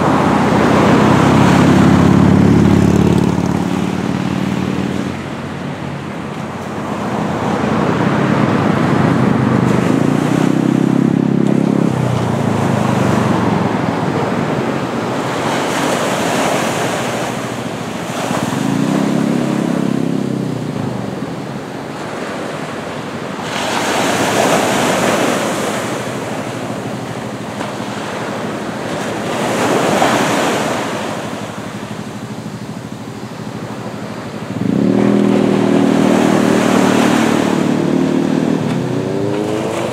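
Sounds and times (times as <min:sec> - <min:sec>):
small ocean waves breaking: 0:00.0 - 0:39.9
vehicle engine passing: 0:00.0 - 0:39.9.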